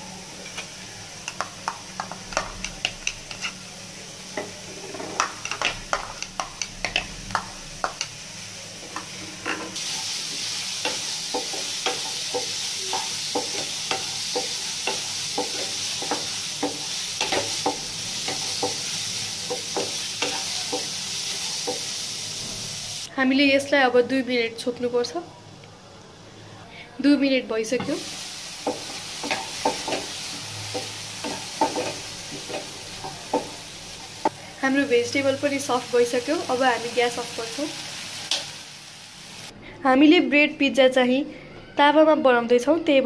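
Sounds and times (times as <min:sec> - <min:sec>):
vegetables sizzling: 0:00.0 - 0:39.5.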